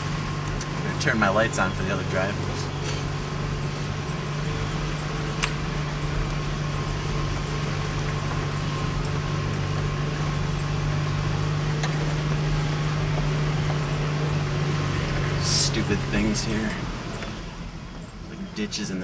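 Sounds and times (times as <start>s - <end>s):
pickup engine humming: 0.0s - 19.0s.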